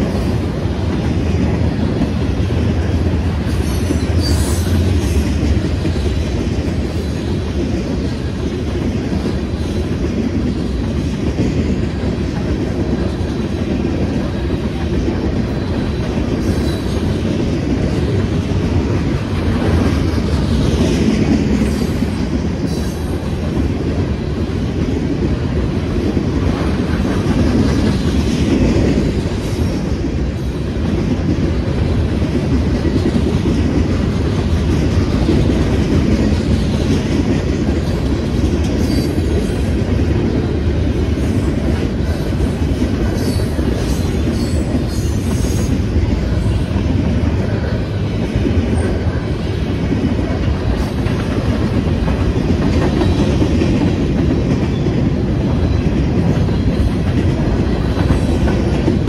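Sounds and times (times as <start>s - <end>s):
train cars rumbling past: 0.0s - 59.0s.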